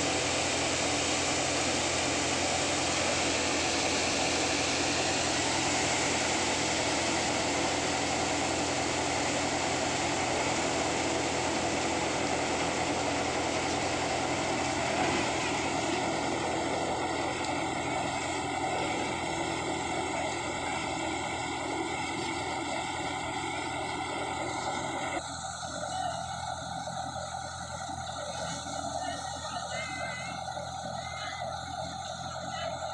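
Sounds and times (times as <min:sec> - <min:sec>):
thresher and tractor engine running: 0:00.0 - 0:32.9.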